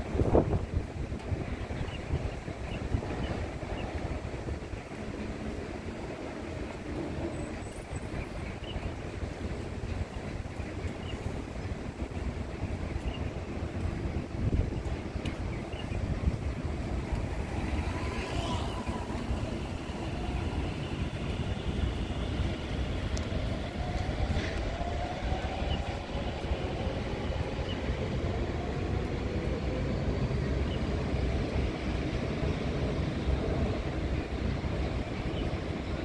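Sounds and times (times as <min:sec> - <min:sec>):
train rumbling: 0:00.0 - 0:36.0.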